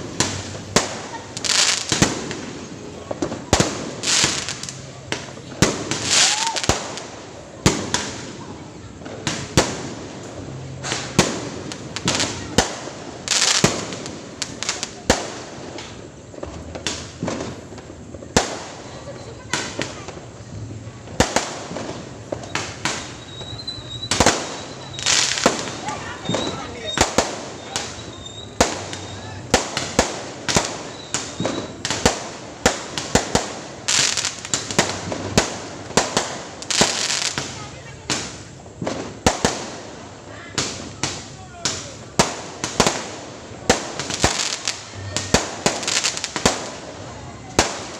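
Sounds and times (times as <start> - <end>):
fireworks bangs: 0.0 - 47.9
fireworks crackling: 0.0 - 47.9.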